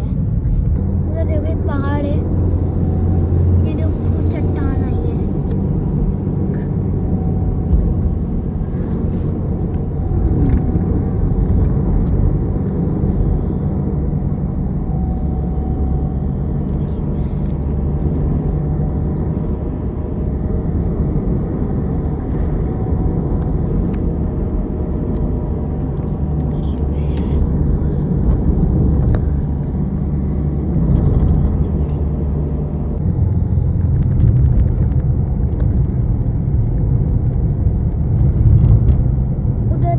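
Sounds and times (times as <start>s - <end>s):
car engine hum: 0.0s - 39.9s
road rumble: 0.0s - 39.9s.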